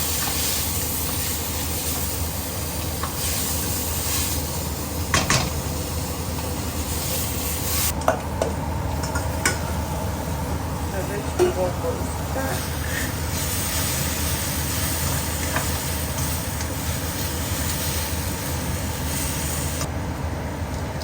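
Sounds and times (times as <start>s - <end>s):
greens sizzling in hot oil: 0.0s - 8.0s, 8.9s - 19.9s.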